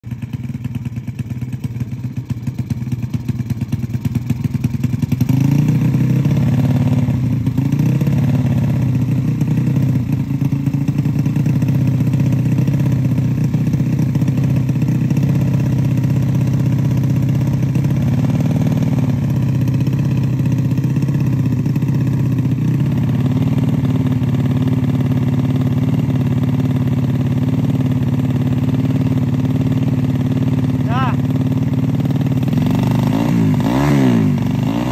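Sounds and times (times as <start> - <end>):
motorcycle engine idling with throttle blips: 0.0 - 34.9.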